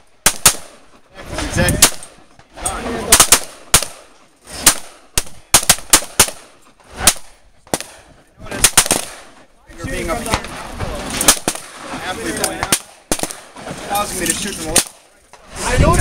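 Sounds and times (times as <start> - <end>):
gunshots: 0.0 - 2.2, 2.8 - 15.6.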